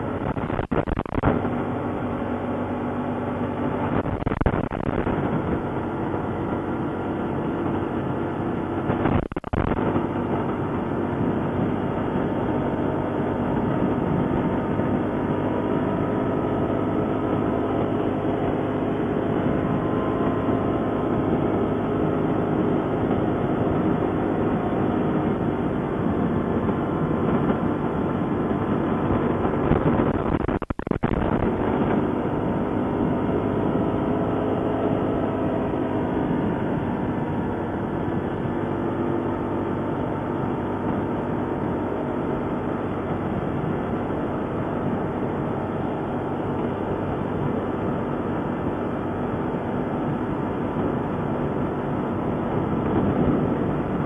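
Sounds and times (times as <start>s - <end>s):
atv engine rumbling: 0.0s - 54.0s.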